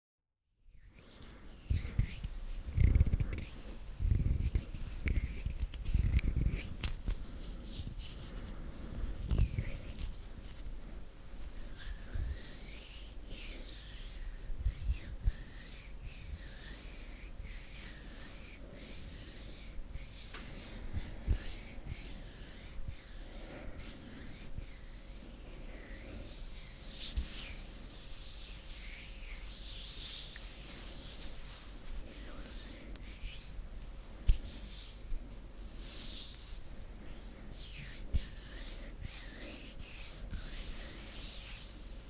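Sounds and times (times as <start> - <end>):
hands rubbing together: 1.0 - 10.8, 11.6 - 33.6, 34.2 - 42.0.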